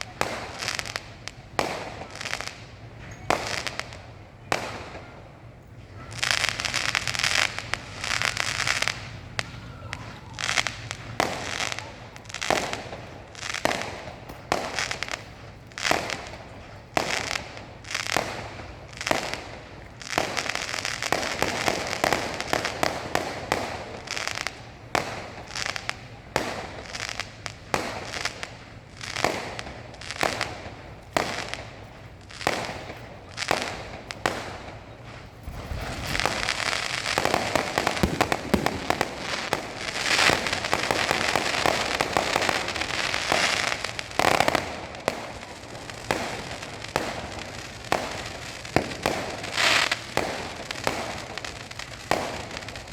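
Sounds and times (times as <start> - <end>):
firework bangs echoing: 0.0 - 52.9
fireworks crackling: 0.0 - 52.9.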